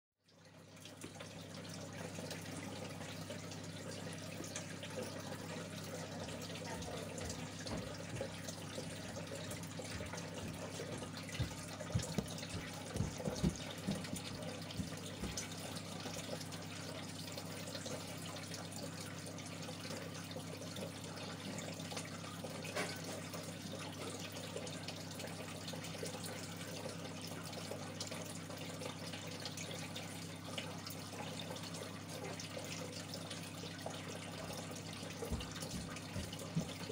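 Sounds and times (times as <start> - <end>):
water trickling and splashing: 0.2 - 36.9
pump hum: 0.3 - 36.9.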